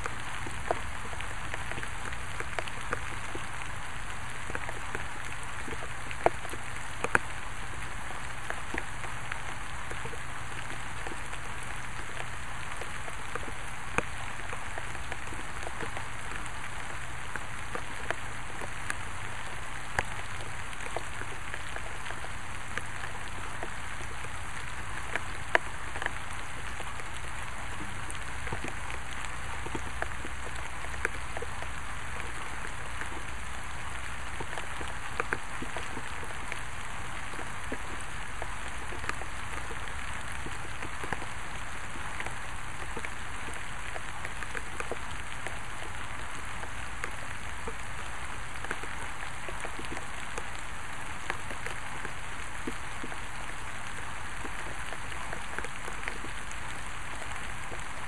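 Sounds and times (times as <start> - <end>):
raindrops pattering on surfaces: 0.0 - 58.0
steady rain falling: 0.0 - 58.0.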